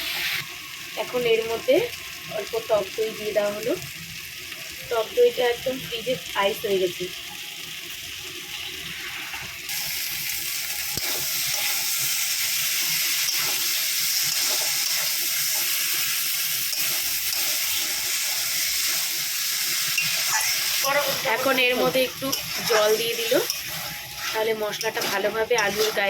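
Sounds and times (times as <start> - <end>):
curry sizzling in hot oil: 0.0 - 26.0.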